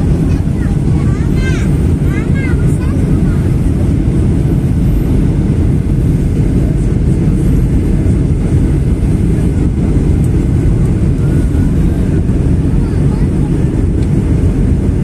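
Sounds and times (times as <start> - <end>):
aeroplane cabin engine rumble: 0.0 - 15.0.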